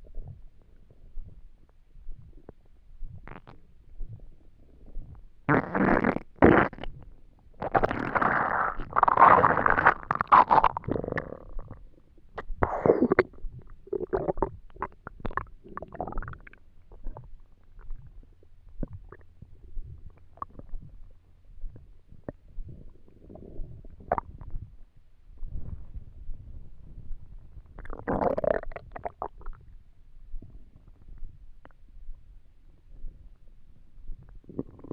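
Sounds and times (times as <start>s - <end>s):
stomach rumbling and gurgling: 0.0s - 34.9s.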